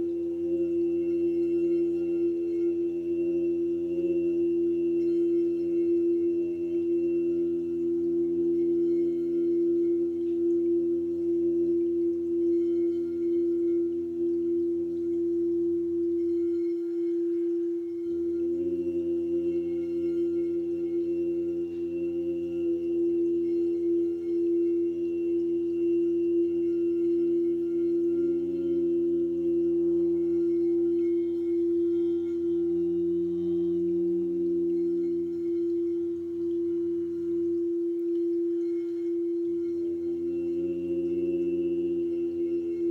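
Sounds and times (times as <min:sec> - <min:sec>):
sound-healing drone tones: 0:00.0 - 0:42.9.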